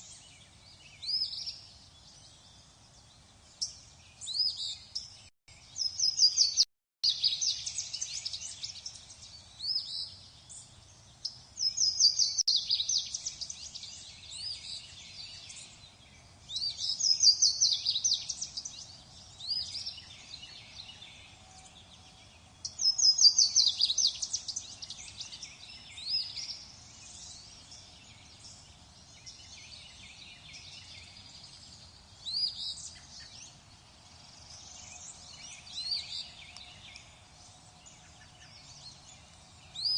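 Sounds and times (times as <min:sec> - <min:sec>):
soft bird chirps and calls: 0:00.0 - 0:39.9
songbirds singing: 0:00.0 - 0:39.9.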